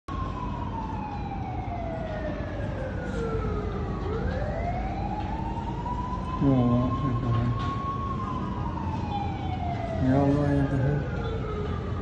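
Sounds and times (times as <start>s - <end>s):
fire engine siren wailing: 0.1s - 12.0s.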